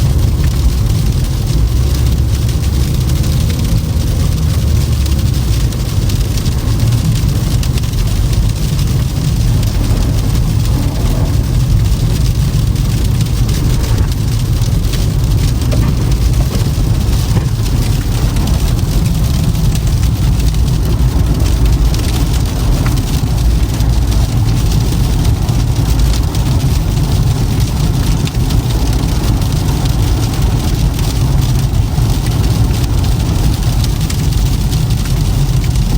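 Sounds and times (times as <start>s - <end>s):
car engine hum: 0.0s - 35.9s
tyre rumble on road: 0.0s - 35.9s.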